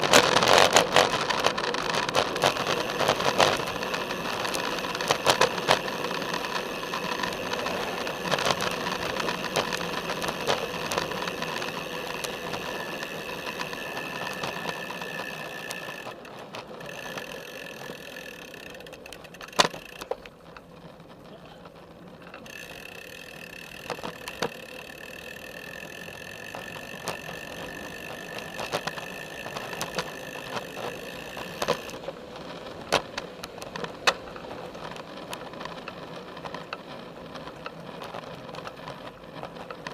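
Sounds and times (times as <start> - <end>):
bike frame rattling clicks: 0.0 - 21.2, 22.2 - 39.9
bicycle tyre and drivetrain noise: 0.0 - 39.9.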